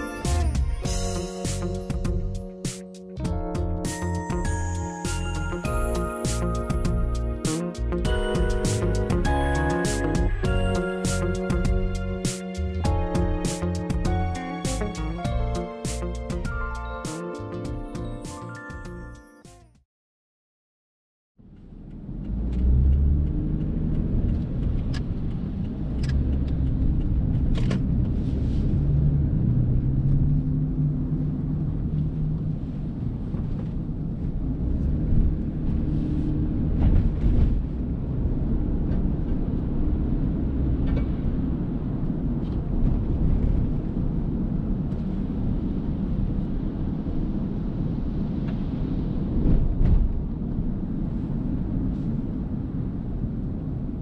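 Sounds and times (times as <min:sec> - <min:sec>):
car engine and road noise: 0:00.0 - 0:18.4, 0:21.4 - 0:54.0.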